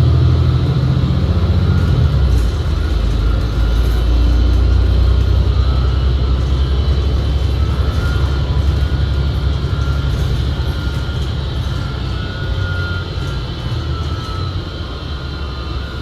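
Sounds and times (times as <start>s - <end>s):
bus drivetrain rumbling and whining: 0.0s - 16.0s.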